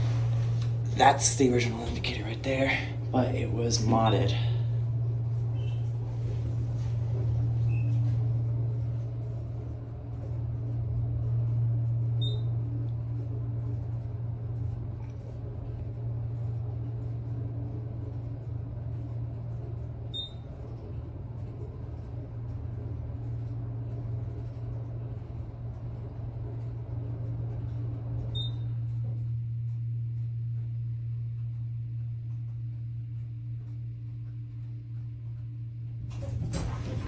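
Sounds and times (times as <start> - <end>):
elevator hum and rumble: 0.0 - 37.0.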